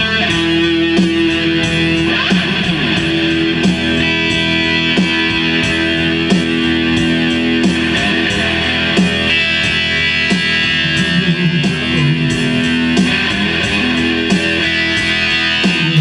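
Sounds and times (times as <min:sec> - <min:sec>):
electric guitar playing blues: 0:00.0 - 0:16.0.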